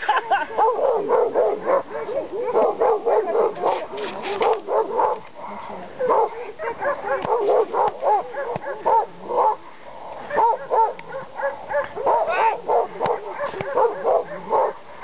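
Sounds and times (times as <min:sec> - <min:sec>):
dog barking aggressively: 0:00.6 - 0:05.2, 0:06.0 - 0:09.6, 0:10.2 - 0:14.8.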